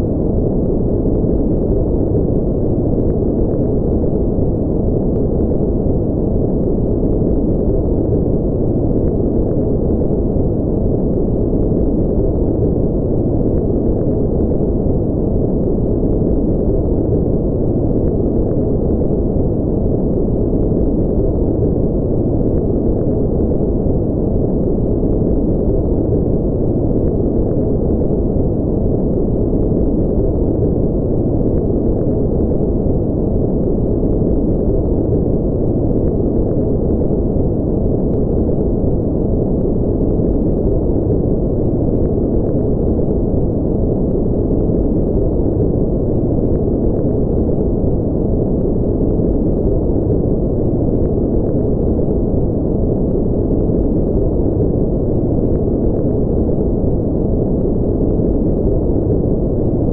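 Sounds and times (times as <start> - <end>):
deep white noise: 0.0 - 59.9
low rumbling sleep noise hiss: 0.0 - 59.9.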